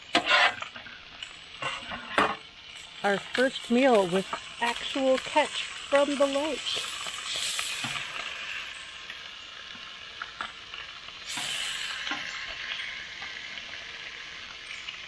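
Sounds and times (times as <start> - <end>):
fish frying on a griddle: 0.0 - 15.0.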